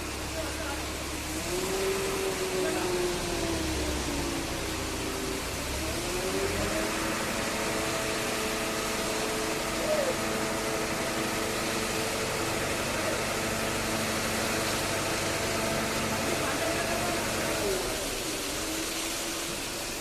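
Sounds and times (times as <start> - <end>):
construction machine engine running: 0.0 - 20.0.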